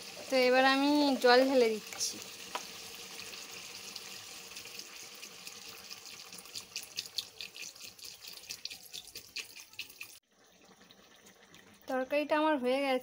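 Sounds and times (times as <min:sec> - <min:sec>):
water splashing into hot wok: 0:00.0 - 0:12.0.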